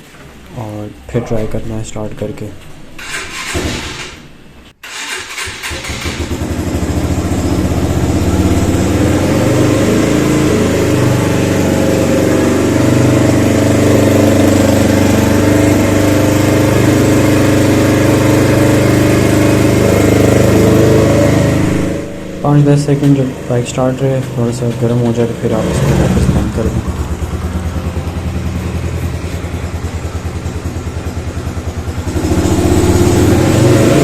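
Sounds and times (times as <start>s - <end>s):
motorcycle engine starting and idling: 1.2s - 34.0s.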